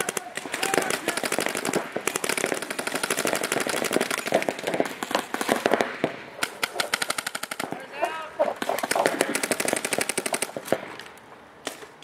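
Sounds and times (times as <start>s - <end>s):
paintball guns firing rapidly: 0.0s - 11.0s.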